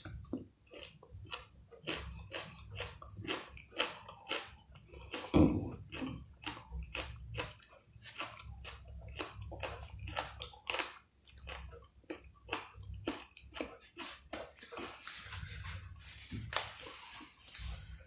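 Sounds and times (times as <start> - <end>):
wet chewing and mouth smacks: 0.0 - 17.8.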